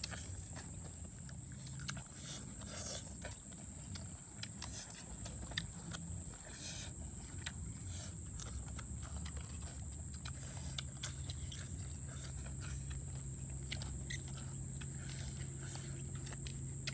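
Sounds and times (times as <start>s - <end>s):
people chewing and lip smacking: 0.0s - 16.9s.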